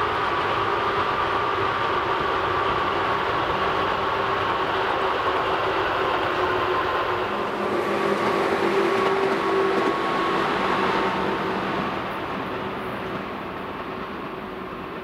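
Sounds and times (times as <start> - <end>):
electric train rumbling and whining: 0.0 - 15.0.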